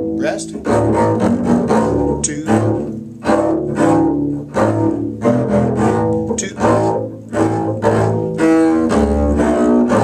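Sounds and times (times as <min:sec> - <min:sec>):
bowed double bass: 0:00.0 - 0:10.0
bowed strings in harmony: 0:00.0 - 0:10.0.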